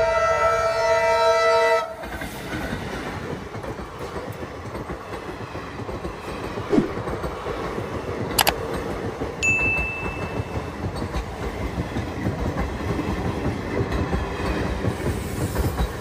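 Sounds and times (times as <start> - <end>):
train coaches rumbling and clattering: 1.8 - 16.0.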